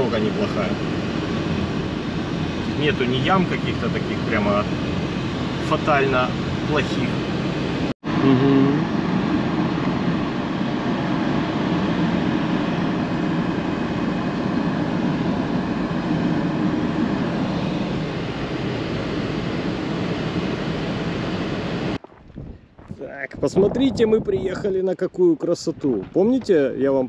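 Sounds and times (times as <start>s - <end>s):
car tyre and engine noise: 0.0s - 27.0s.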